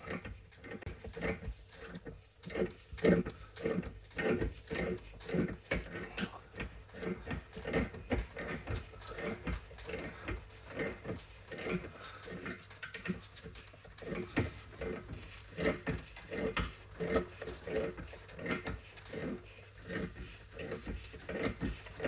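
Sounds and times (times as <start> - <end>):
tool clicking and scraping on metal: 0.0 - 22.0.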